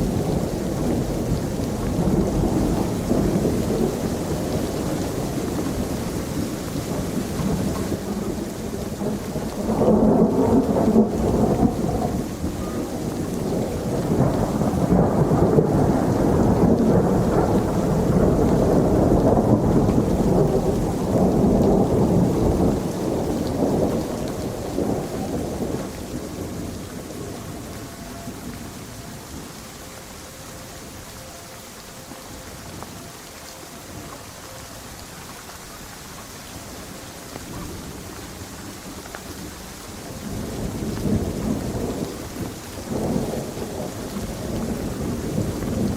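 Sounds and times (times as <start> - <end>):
rolling thunder: 0.0 - 29.6, 37.4 - 45.9
steady rain: 0.0 - 45.9.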